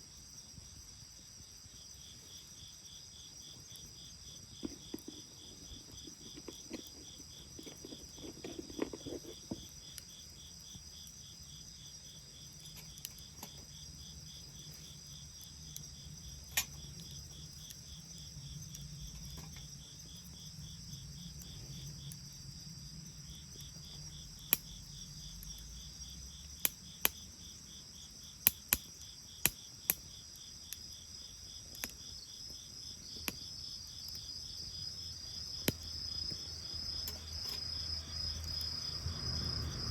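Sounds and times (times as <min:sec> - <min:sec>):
crickets chirping: 0:00.0 - 0:39.9
bonfire hissing: 0:00.2 - 0:39.9
fire crackling pops: 0:03.5 - 0:39.9.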